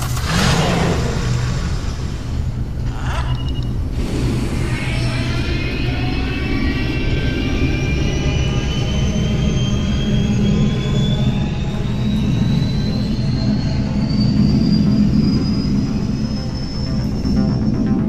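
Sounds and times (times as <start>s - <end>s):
high engine whine rising in pitch: 0.0s - 18.0s
jet engine low rumble: 0.0s - 18.0s.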